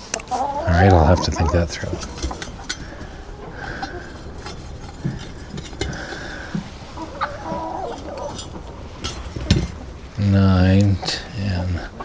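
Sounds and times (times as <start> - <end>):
hens clucking: 0.0 - 12.0
light clicks and knocks: 0.0 - 12.0.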